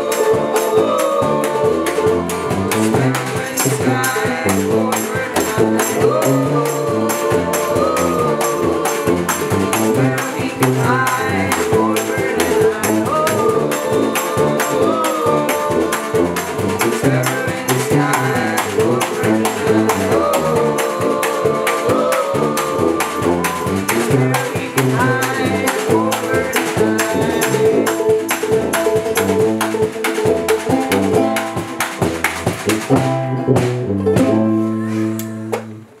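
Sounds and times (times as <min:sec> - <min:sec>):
snare drum: 0:00.0 - 0:34.6
acoustic guitar: 0:00.0 - 0:36.0
banjo: 0:00.0 - 0:36.0
tuba bass line: 0:00.0 - 0:36.0.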